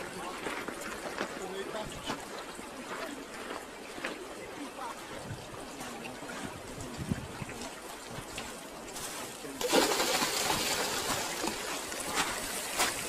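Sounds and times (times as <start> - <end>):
meltwater trickling and running: 1.0 - 13.0.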